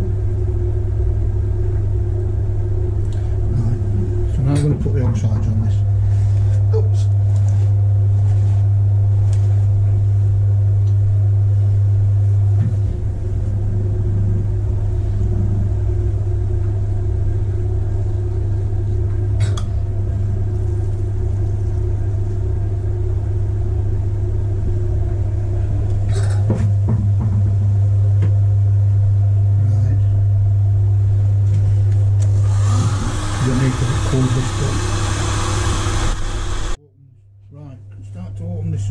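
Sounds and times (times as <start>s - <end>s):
potter's wheel motor humming: 0.0s - 29.5s, 30.7s - 36.8s.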